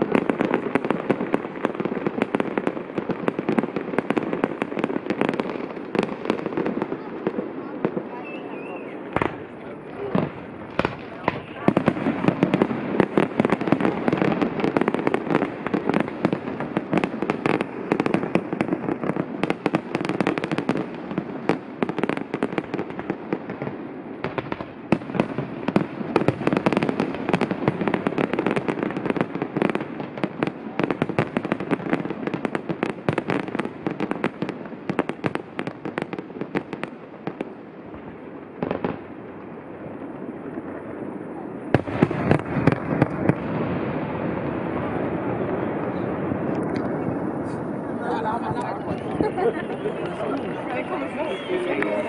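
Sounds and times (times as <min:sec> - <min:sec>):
fireworks bursting and crackling: 0:00.0 - 0:52.0.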